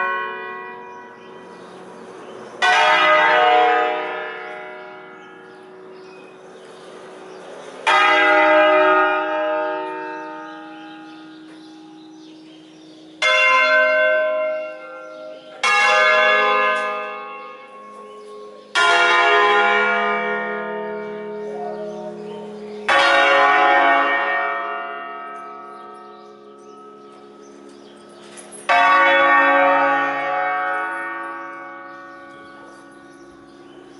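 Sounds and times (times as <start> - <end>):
church bell strokes: 0.0 - 33.9.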